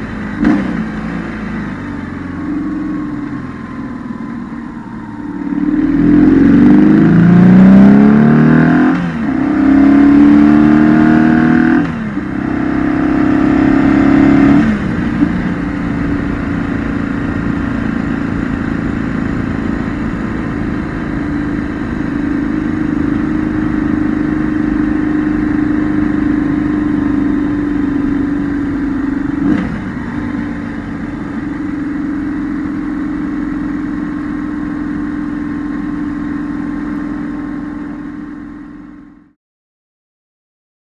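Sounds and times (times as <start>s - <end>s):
motorcycle accelerating through gears: 0.0s - 39.3s.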